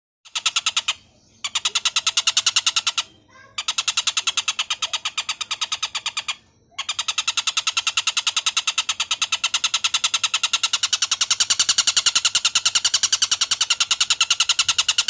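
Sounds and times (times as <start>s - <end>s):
bird rasping chatter: 0.3s - 15.0s.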